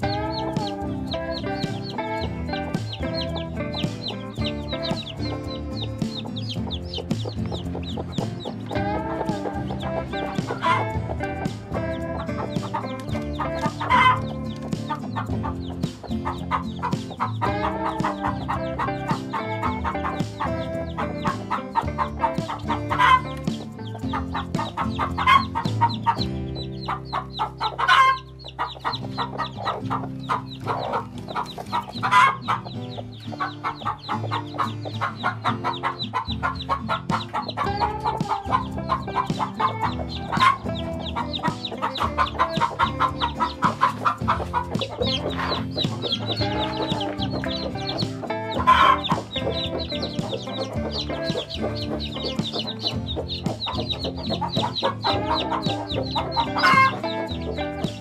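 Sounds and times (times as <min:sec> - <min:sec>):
background music: 0:00.0 - 0:58.0
hen clucking: 0:00.0 - 0:58.0.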